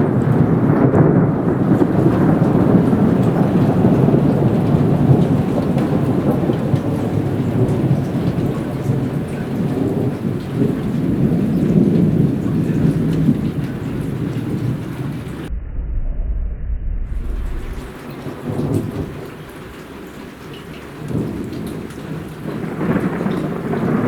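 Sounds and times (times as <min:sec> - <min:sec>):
heavy rain falling: 0:00.0 - 0:15.5, 0:17.1 - 0:24.0
raindrop ticks: 0:00.0 - 0:15.5, 0:17.2 - 0:24.0
rolling thunder: 0:00.0 - 0:20.2, 0:20.9 - 0:24.0.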